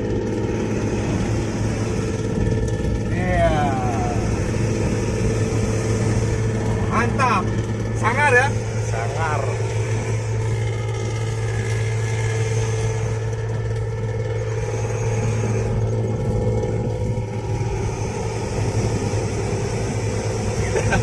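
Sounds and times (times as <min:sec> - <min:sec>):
bus exhaust rumble: 0:00.0 - 0:21.0.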